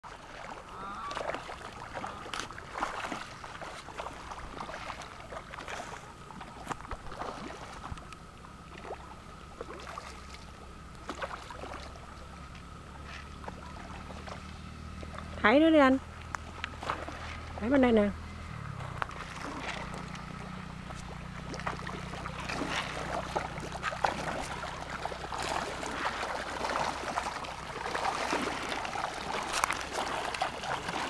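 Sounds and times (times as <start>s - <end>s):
fish splashing at water surface: 0.0s - 15.4s, 16.3s - 17.6s, 18.4s - 31.0s.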